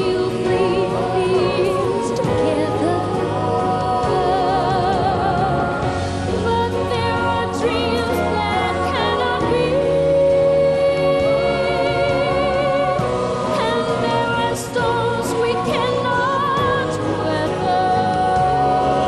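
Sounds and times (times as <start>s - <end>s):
sustained musical accompaniment: 0.0s - 19.0s.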